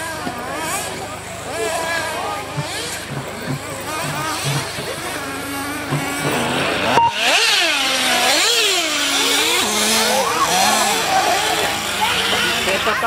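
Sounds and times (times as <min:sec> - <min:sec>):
rc nitro engines whining: 0:00.0 - 0:13.0.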